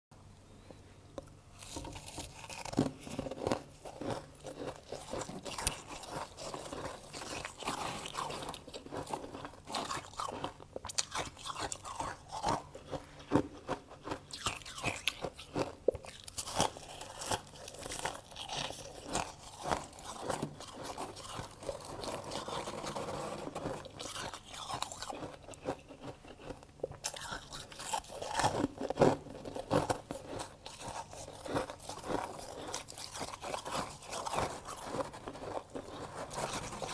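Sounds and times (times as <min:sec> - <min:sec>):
person chewing frost crunching: 0:01.5 - 0:36.9.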